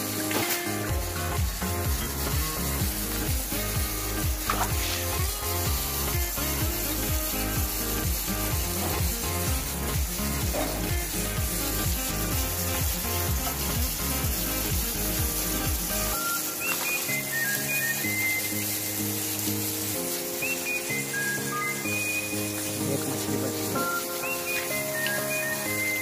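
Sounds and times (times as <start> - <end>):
music with steady beat: 0.0 - 26.0
running water hiss: 0.0 - 26.0.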